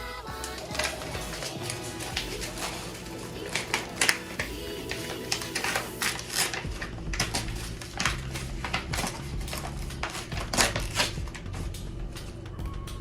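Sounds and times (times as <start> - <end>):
packaging rustling and crinkling: 0.5 - 12.4.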